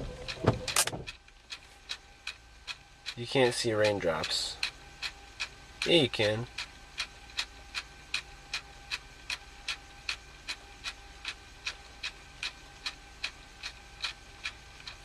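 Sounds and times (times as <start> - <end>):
faint steady hum: 0.0 - 15.0
regular mechanical ticking: 0.0 - 15.0.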